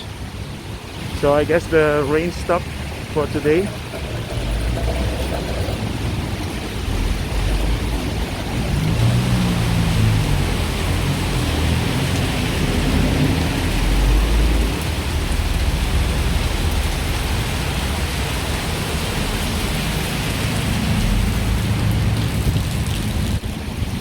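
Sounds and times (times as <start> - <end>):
heavy vehicles rumbling past: 0.0 - 23.3
vehicle engines running: 0.0 - 23.4
tyres hissing on wet road: 0.0 - 24.0.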